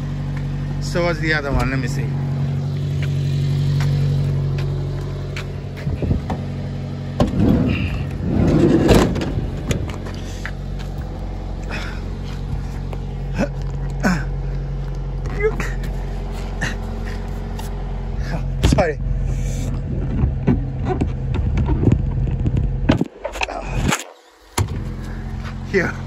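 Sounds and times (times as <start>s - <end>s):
car engine idling: 0.0s - 26.0s
car doors and seats rattling: 0.9s - 19.0s, 19.7s - 25.7s.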